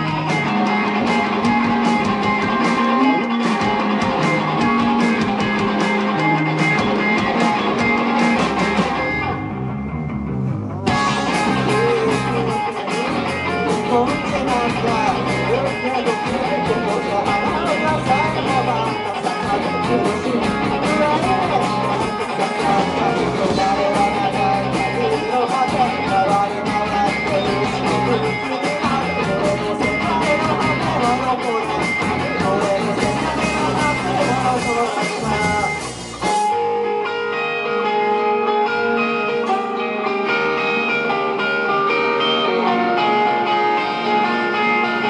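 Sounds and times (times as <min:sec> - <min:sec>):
bass guitar: 0:00.0 - 0:45.0
drums: 0:00.0 - 0:45.0
electric guitars: 0:00.0 - 0:45.0.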